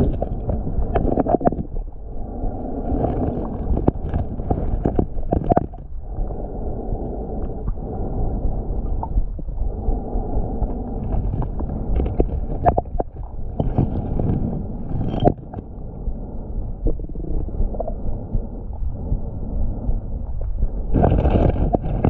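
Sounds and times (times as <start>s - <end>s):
muffled underwater rumble: 0.0s - 22.0s.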